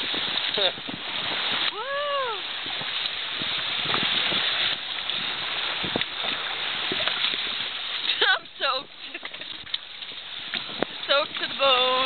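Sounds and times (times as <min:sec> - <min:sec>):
water streaming past boat: 0:00.0 - 0:12.0
wind on microphone: 0:00.0 - 0:12.0.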